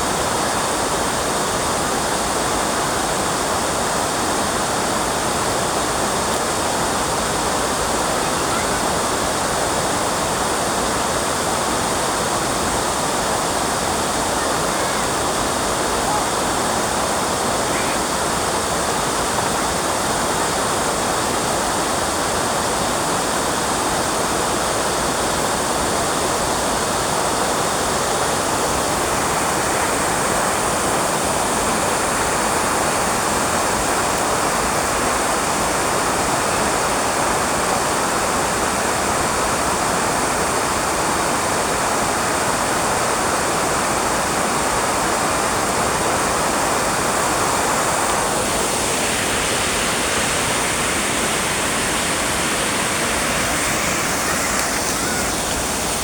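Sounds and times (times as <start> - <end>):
steady loud rushing noise: 0.0 - 39.8, 43.8 - 56.0.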